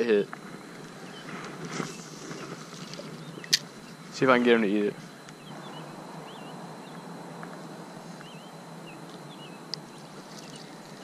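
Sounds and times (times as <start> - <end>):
background hiss: 0.0 - 11.0
bird chirping: 0.6 - 11.0.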